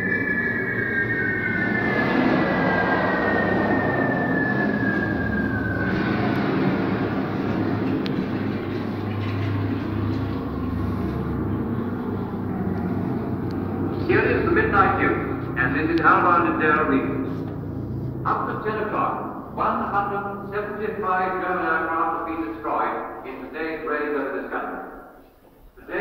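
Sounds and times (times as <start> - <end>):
descending whistle-like tones: 0.0 - 23.8
rumble of aircraft and bombing: 0.0 - 24.6.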